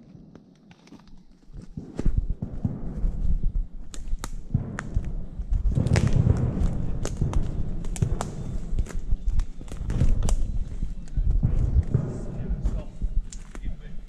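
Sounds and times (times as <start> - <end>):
footsteps snapping and clicking: 0.0 - 2.8, 3.8 - 12.2, 13.2 - 13.7
low rumble: 2.1 - 14.0.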